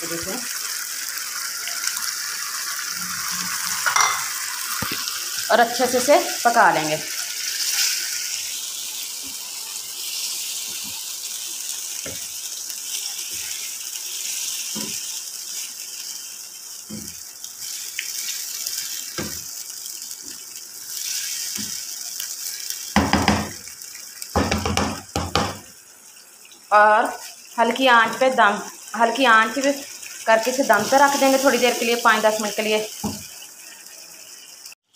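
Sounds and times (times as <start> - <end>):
curry sizzling in a pan: 0.0 - 34.9.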